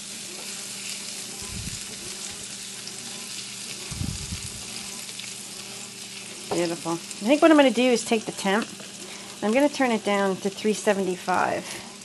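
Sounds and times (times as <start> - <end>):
onion sizzling in fat: 0.0 - 12.0
steady low hum: 0.2 - 12.0.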